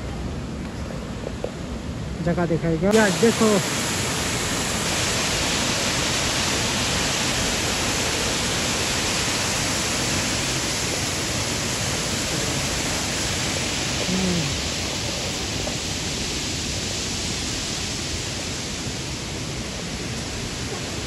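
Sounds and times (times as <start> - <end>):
small waterfall rushing: 0.0 - 21.0.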